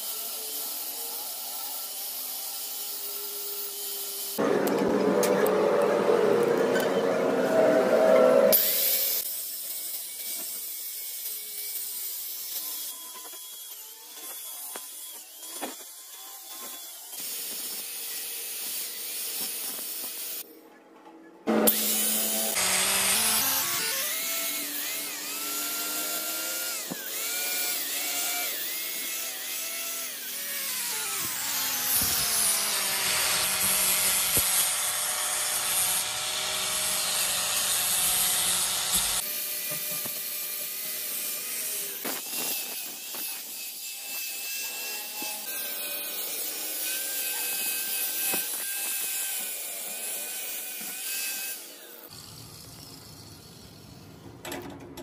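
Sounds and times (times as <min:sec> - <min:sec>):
angle grinder grinding steel: 0:00.0 - 0:20.5, 0:21.5 - 0:54.0.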